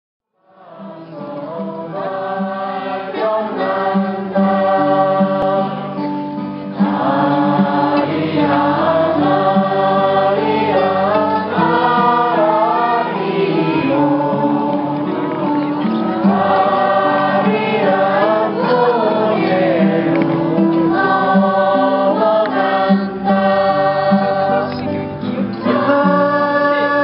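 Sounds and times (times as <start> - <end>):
group of voices singing: 0.4 - 27.0
cello: 0.5 - 27.0
guitar: 0.5 - 27.0.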